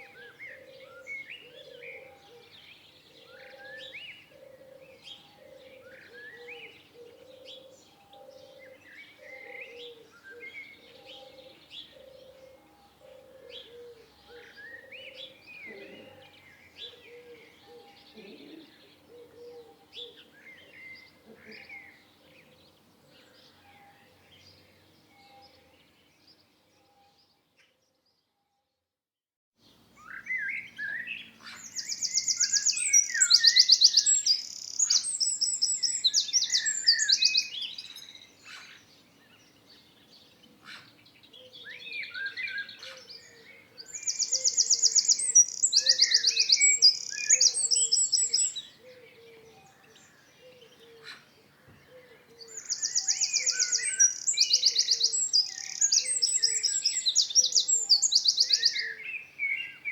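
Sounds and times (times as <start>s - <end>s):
songbirds chirping and singing: 0.0s - 28.3s, 29.6s - 59.9s.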